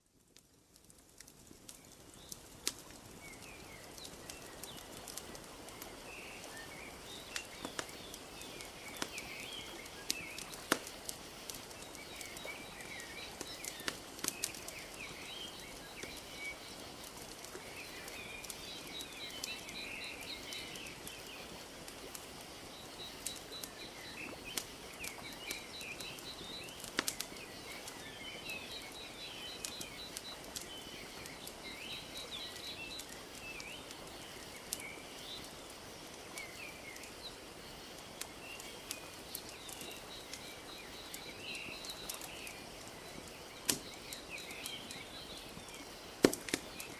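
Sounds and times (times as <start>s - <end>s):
wood fire crackling: 0.0s - 46.9s
small birds chirping: 0.8s - 46.9s.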